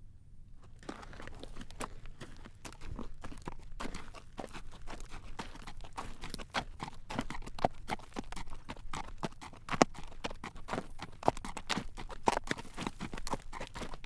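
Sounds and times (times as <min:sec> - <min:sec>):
horse hooves clip-clopping on road: 0:00.6 - 0:14.0.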